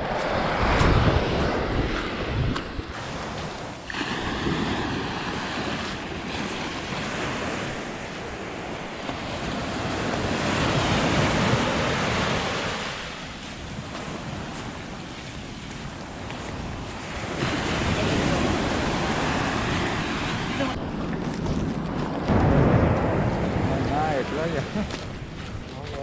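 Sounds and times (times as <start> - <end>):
sea waves breaking on shore: 0.0 - 26.0
wind buffeting microphone: 0.0 - 26.0.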